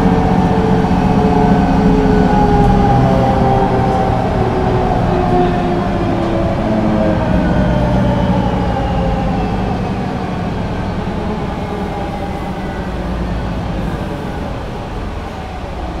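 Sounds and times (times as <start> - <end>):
bus engine whine: 0.0 - 16.0.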